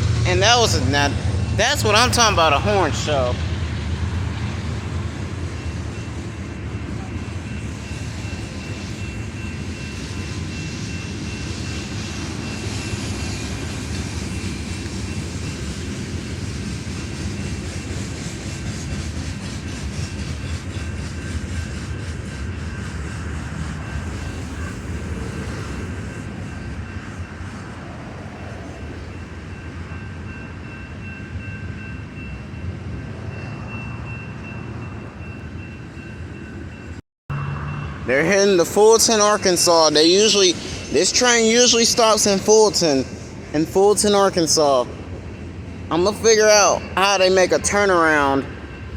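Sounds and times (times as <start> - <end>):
train rumbling on track: 0.0 - 48.9.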